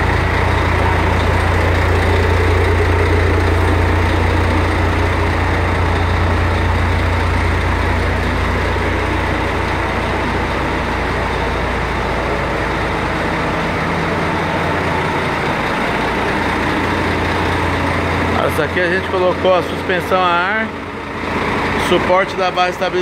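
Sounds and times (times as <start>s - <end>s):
truck diesel engine idling: 0.0s - 23.0s.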